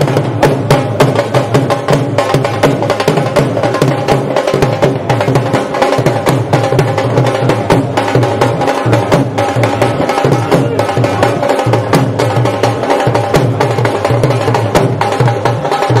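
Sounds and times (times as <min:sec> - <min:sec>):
dhol drums playing: 0:00.0 - 0:16.0.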